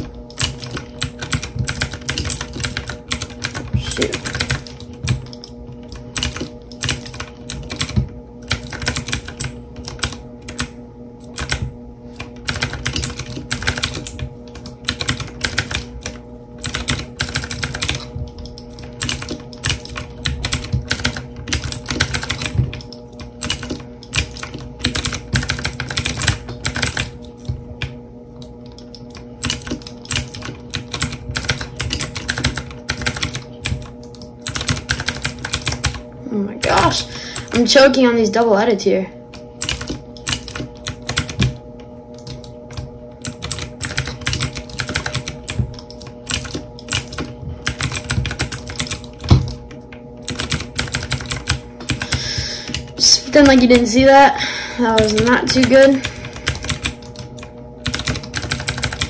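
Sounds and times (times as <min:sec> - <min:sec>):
mechanical keyboard typing: 0:00.0 - 0:27.9, 0:28.7 - 0:36.0, 0:39.6 - 0:41.6, 0:42.2 - 0:49.6, 0:50.2 - 0:53.9, 0:55.0 - 0:59.0
steady low hum: 0:00.0 - 0:59.0.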